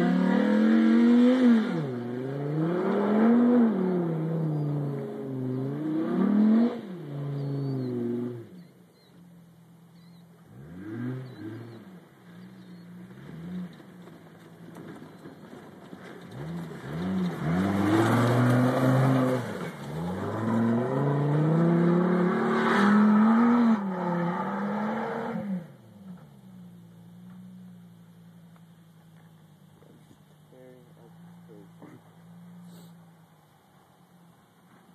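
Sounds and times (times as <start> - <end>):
pickup engine revving: 0.0 - 34.4.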